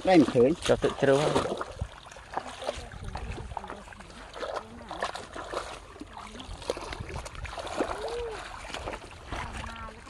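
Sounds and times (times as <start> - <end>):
feet wading through muddy water: 0.0 - 10.0.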